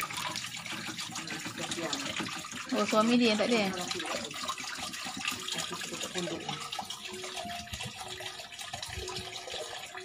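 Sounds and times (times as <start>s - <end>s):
water pouring into a tank: 0.0s - 10.0s.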